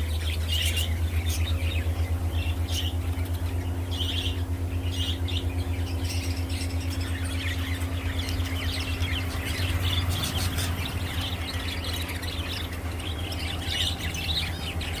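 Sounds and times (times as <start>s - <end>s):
small birds chirping and squawking: 0.0s - 15.0s
steady low hum: 0.0s - 15.0s.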